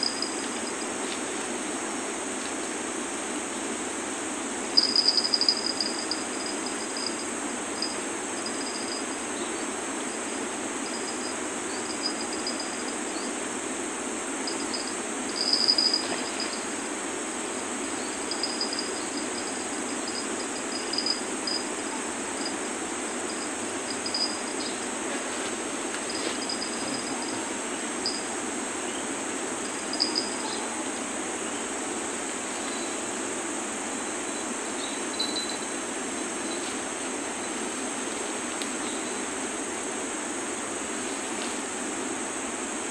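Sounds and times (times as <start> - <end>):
high insect drone: 0.0 - 42.9
insects chirping in trills: 0.0 - 42.9.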